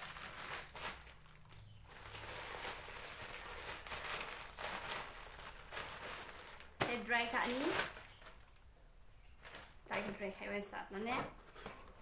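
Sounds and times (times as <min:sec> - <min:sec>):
packaging crinkling and rustling: 0:00.0 - 0:08.7, 0:09.3 - 0:12.0.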